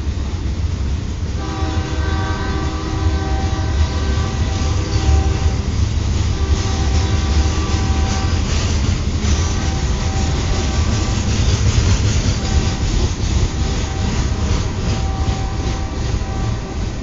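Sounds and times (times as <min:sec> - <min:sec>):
freight train rumbling past: 0:00.0 - 0:17.0
locomotive air horn blasts: 0:01.4 - 0:08.6, 0:09.4 - 0:11.5, 0:12.4 - 0:17.0.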